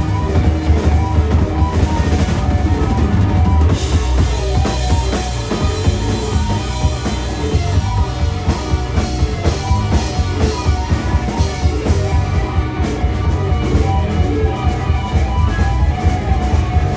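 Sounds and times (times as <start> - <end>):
live rock band playing: 0.0 - 16.9.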